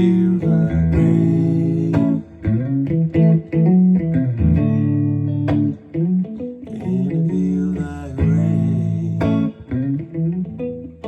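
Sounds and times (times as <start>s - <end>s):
low bass line: 0.0s - 10.6s
guitar playing: 0.0s - 11.0s.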